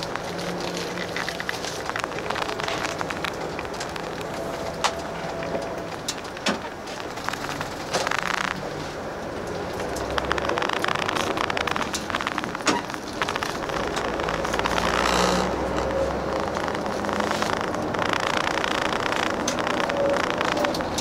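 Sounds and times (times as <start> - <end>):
bus engine and road noise: 0.0 - 21.0
small rattles and clicks: 0.0 - 21.0.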